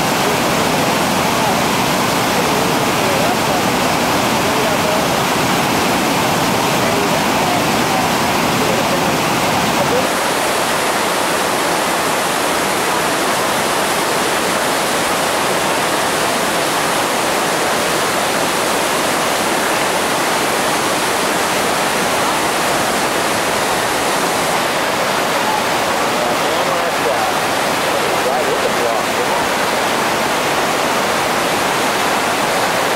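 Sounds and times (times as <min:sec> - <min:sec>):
whitewater rushing: 0:00.0 - 0:32.9.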